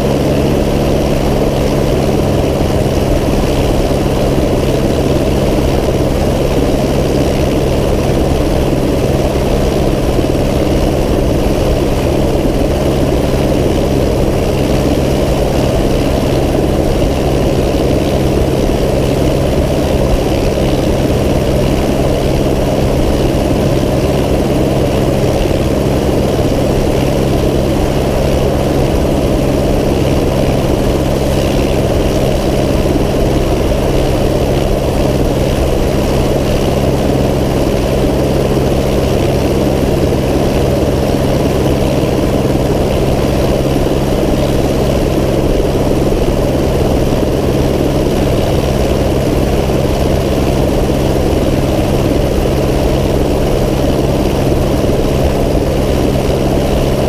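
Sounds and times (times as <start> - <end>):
propeller aircraft engine idling: 0.0 - 57.0.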